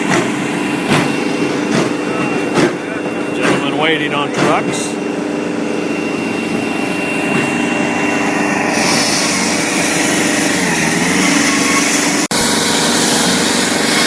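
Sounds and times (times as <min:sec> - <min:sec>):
construction machinery engine running: 0:00.0 - 0:14.0.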